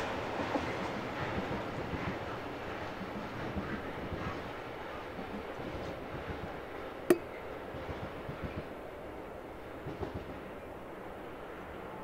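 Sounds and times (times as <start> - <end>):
distant freight train rumbling: 0.0 - 12.0.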